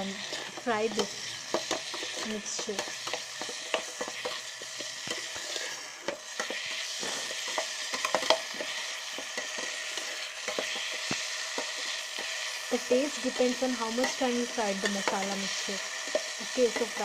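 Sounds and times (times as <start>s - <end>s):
food sizzling in a pot: 0.0s - 17.0s
utensil scraping a pot: 0.0s - 17.0s.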